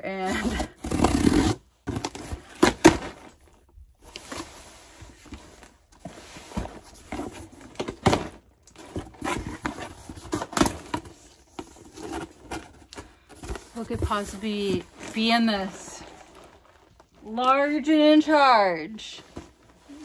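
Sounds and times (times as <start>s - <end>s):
cardboard flaps scraping and rustling: 0.3s - 17.4s, 19.2s - 20.0s.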